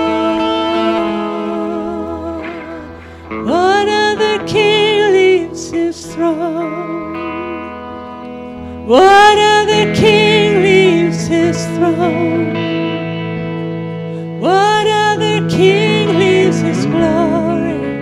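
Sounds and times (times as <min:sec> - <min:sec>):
woman singing with vibrato: 0:00.0 - 0:07.7, 0:08.6 - 0:13.1, 0:14.4 - 0:18.0
bass guitar: 0:00.0 - 0:18.0.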